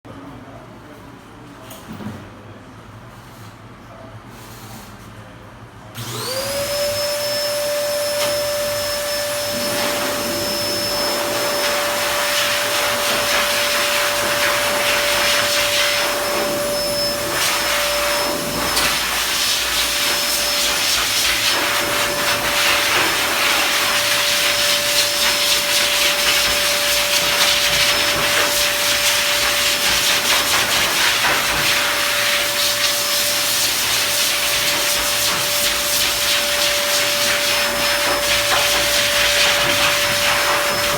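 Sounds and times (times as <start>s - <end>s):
blower dryer motor whine: 5.9s - 40.9s.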